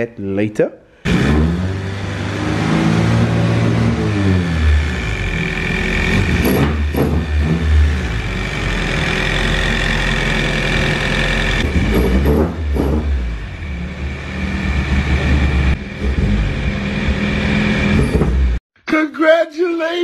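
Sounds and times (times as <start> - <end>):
car engine idling and revving: 1.0 - 18.6.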